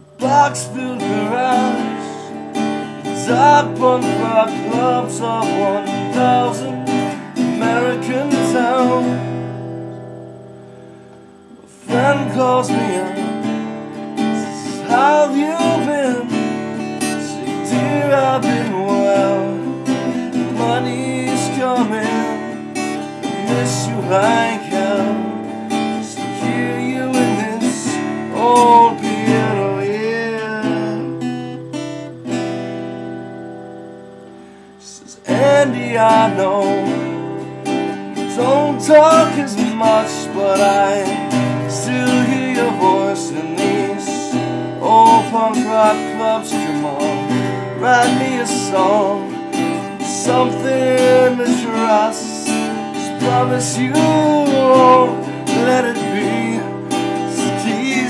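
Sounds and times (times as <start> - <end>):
man singing: 0.0 - 9.6, 11.4 - 31.3, 34.8 - 37.5, 38.2 - 58.0
acoustic guitar strumming: 0.0 - 58.0.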